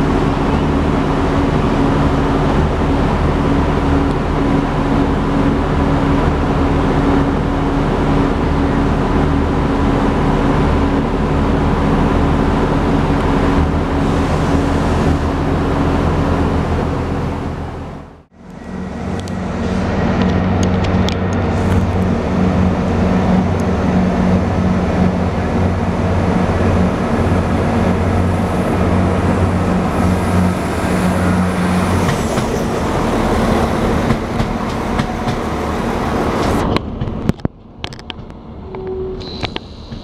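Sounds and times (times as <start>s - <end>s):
diesel engine drone: 0.0s - 40.0s
train rolling in: 0.0s - 40.0s.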